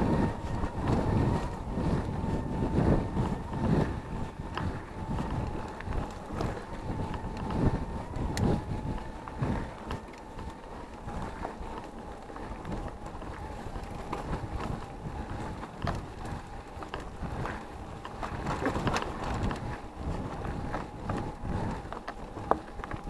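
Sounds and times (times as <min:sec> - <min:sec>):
bike rattling and knocking: 0:00.0 - 0:23.0
tyres rolling on dirt: 0:00.0 - 0:23.0
wind buffeting microphone: 0:00.0 - 0:23.0.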